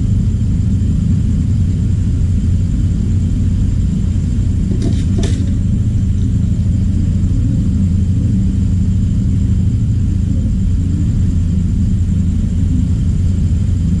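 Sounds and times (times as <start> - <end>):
faint high-pitched whine: 0.0 - 14.0
steady low rumble: 0.0 - 14.0.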